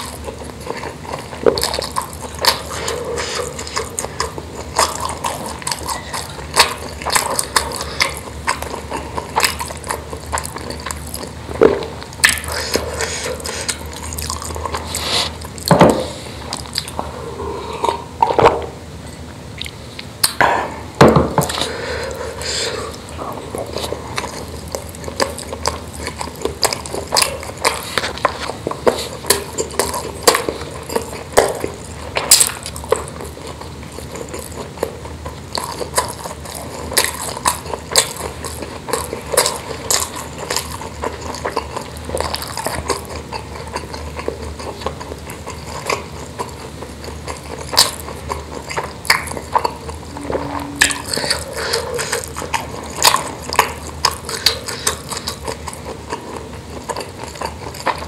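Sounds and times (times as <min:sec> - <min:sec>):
chewing food: 0:00.0 - 0:20.4, 0:21.3 - 0:58.0.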